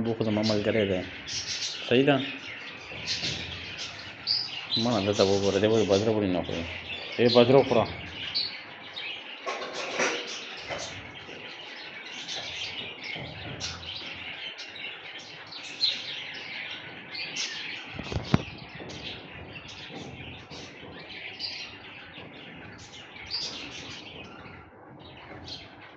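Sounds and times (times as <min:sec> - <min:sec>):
budgerigars chattering: 0:00.0 - 0:25.9.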